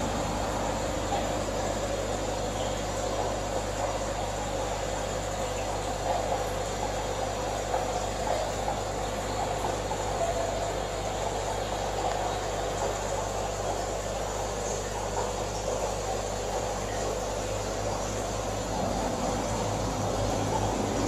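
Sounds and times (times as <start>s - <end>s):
aquarium equipment humming: 0.0s - 21.0s.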